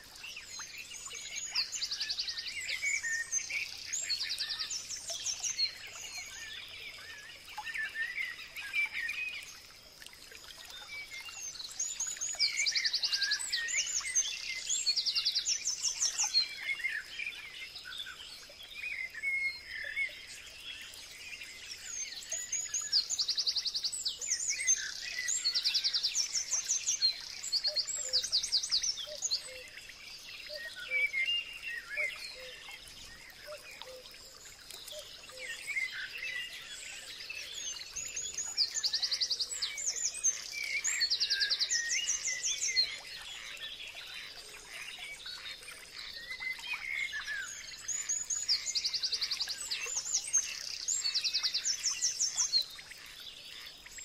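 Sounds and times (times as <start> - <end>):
soft bird chirps: 0.0 - 54.0.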